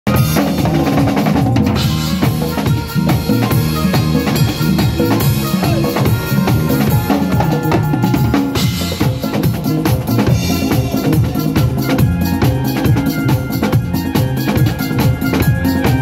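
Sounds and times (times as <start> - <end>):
drum kit groove: 0.1 - 16.0
low pitched bass notes: 0.1 - 16.0.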